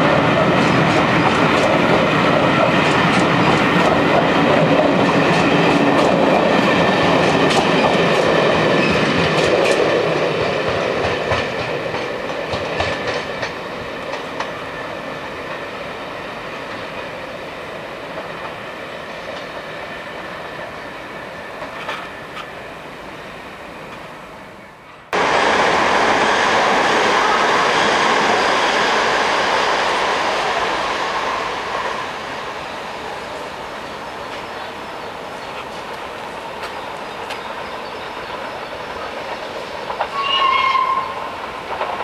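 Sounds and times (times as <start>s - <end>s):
train coaches rolling past: 0.0s - 42.0s.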